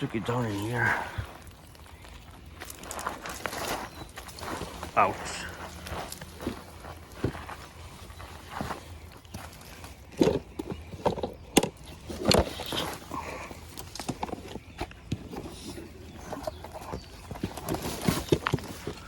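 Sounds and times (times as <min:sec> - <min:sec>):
footsteps crunching over brush: 0:00.0 - 0:19.0.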